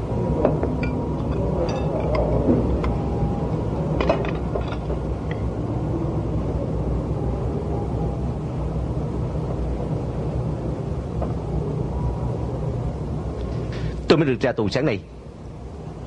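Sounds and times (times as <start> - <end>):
low rumble ambience: 0.0 - 16.0.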